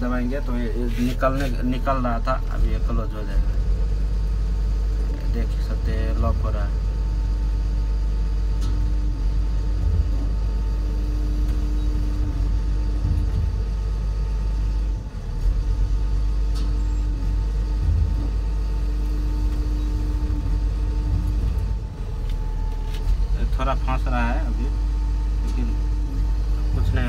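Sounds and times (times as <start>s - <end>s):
diesel engine rumbling: 0.0s - 27.0s
hydraulic whine: 0.0s - 27.0s.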